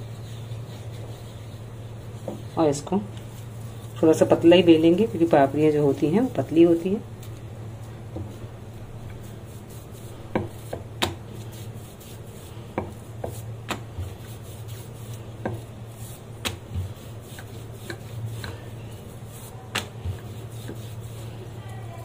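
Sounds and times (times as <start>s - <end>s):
rolling pin rubbing dough: 0.0s - 7.1s, 7.7s - 22.0s
steady low hum: 0.0s - 22.0s.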